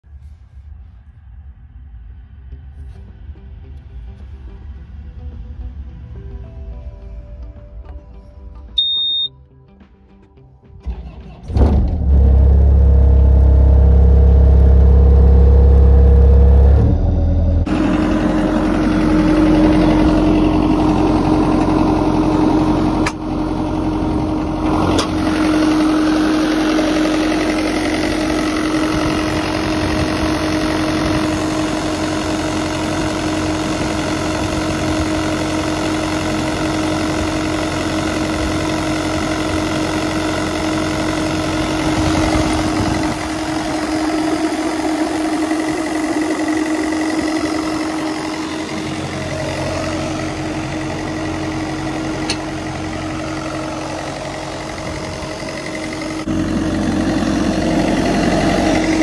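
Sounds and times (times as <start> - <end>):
diesel engine idling: 10.8 - 59.0
deep steady hum: 11.5 - 59.0.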